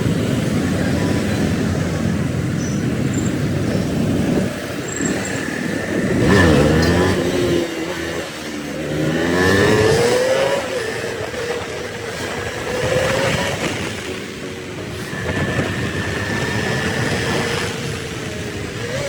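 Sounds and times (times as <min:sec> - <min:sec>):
road noise: 0:00.0 - 0:19.0
vehicle engine revving: 0:00.0 - 0:19.0.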